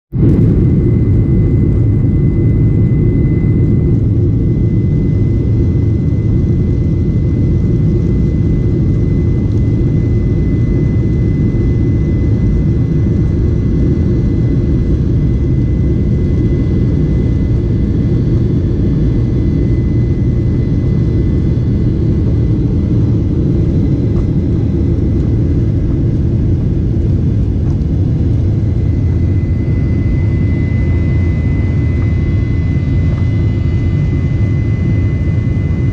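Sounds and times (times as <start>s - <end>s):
airliner engines roaring: 0.1s - 35.9s
high steady engine whine: 0.2s - 35.9s.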